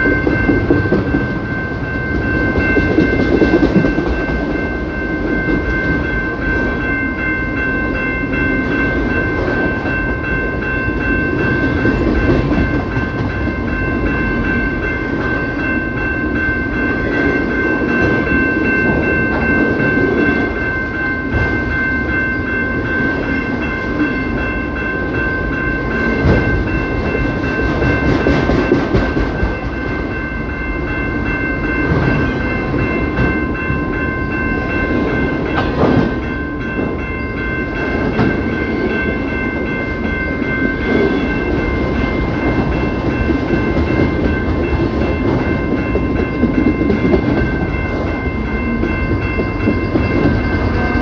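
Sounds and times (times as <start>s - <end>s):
train cars rumbling on rails: 0.0s - 51.0s.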